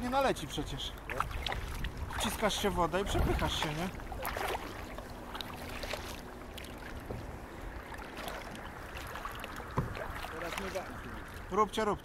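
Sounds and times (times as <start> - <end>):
paddle splashes: 0.0 - 11.8
water lapping around hull: 0.0 - 12.0.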